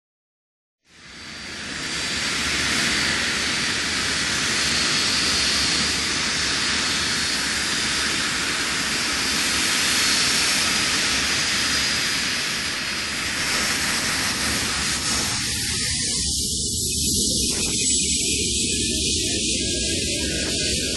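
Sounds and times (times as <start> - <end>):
aircraft taking off: 1.0 - 20.9.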